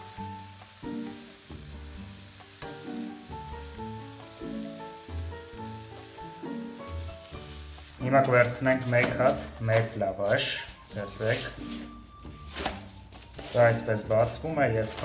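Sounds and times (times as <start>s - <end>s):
background music: 0.0s - 15.0s
vegetables sizzling in oil: 0.0s - 15.0s
wooden spatula stirring: 1.9s - 13.9s.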